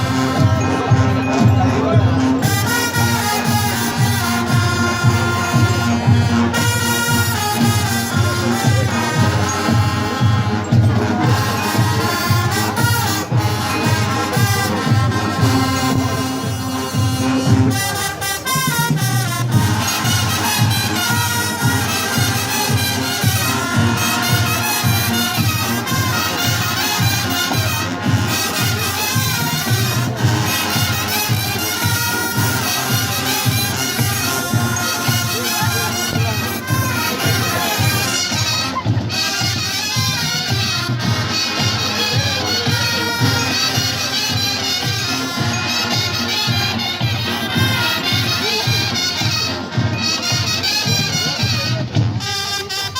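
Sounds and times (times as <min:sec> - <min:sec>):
brass band melody: 0:00.0 - 0:52.9
steady drumbeat: 0:00.0 - 0:52.9.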